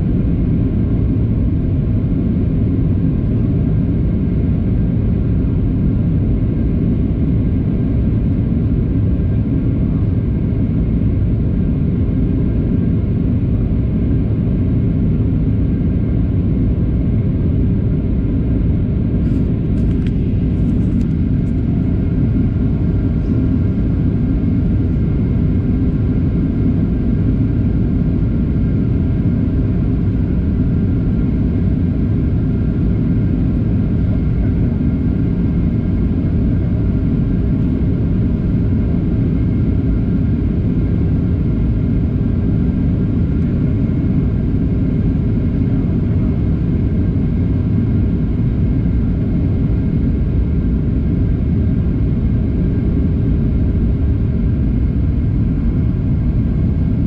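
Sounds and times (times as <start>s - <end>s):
airflow over fuselage: 0.0s - 57.0s
jet engine rumble: 0.0s - 57.0s.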